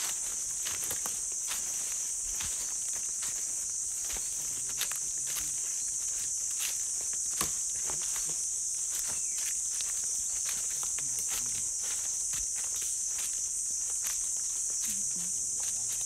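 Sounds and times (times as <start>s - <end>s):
footsteps on forest floor: 0.0s - 16.0s
high-pitched insect drone: 0.0s - 16.0s.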